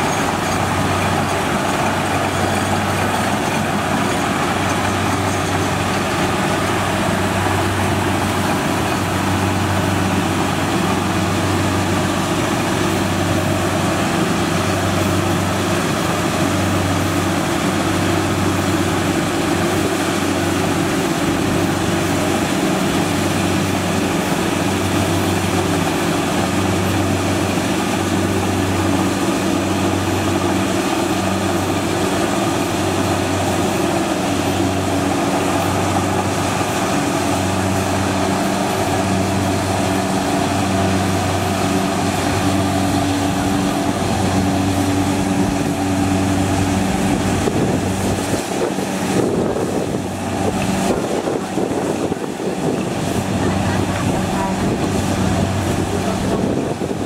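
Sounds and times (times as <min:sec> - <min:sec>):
combine harvester diesel engine: 0:00.0 - 0:57.0.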